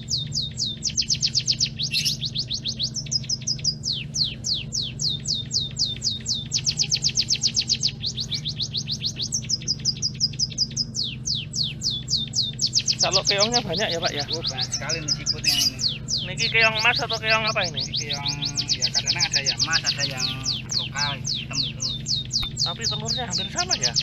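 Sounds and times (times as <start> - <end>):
birds chirping rapidly: 0.0 - 24.0
low steady hum: 0.0 - 24.0.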